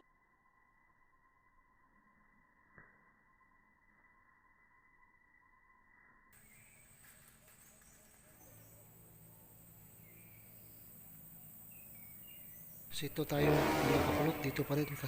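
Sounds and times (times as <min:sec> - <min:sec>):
faint bird chirps: 0:00.0 - 0:13.2.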